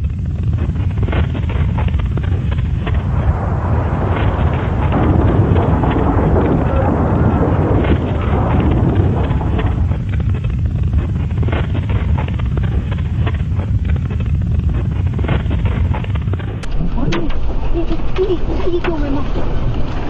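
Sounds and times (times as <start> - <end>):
loud low rumbling: 0.0 - 20.0
rattles and clicks: 0.0 - 20.0.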